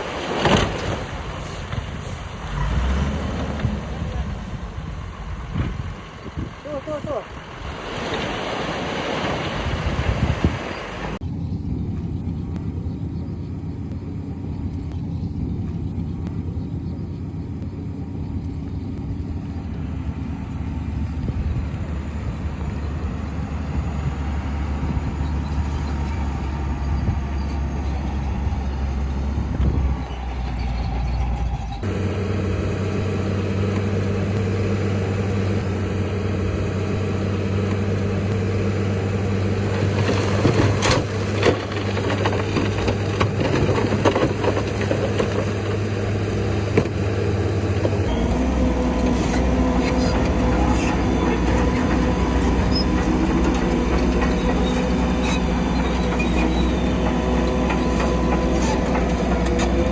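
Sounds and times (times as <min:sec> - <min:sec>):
heavy diesel machinery engine: 0:00.0 - 0:59.9.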